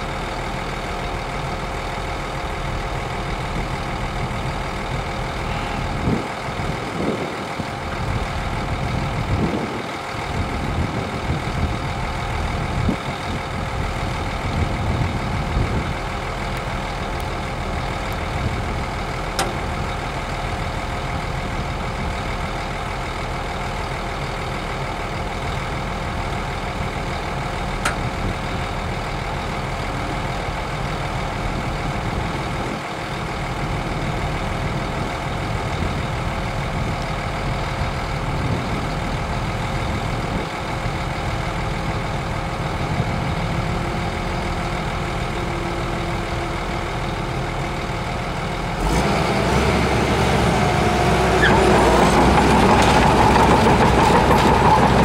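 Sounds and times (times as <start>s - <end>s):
heavy diesel engines droning: 0.0s - 55.0s.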